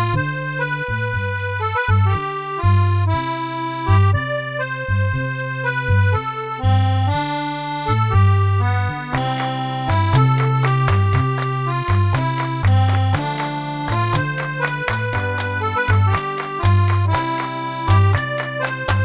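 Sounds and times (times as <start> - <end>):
reedy melody notes: 0.0 - 19.0.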